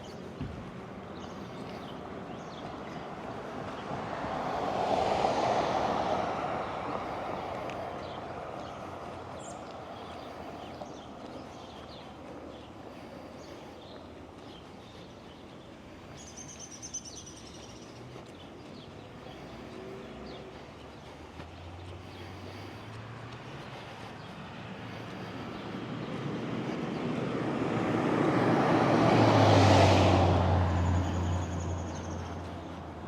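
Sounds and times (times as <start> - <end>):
birds chirping: 0.0 - 33.0
car passing: 0.0 - 33.0.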